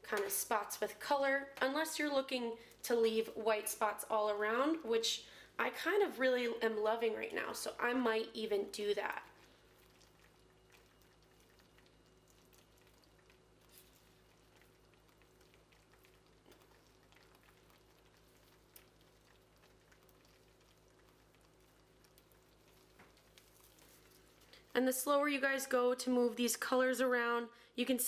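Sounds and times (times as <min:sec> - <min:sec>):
water simmering in a pan: 0:00.0 - 0:27.0.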